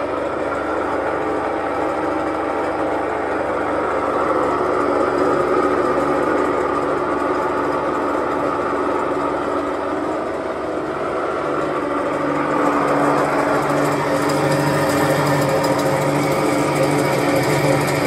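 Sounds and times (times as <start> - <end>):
granulator mechanical whir: 0.0 - 18.0
machine motor hum with whine: 0.0 - 18.0.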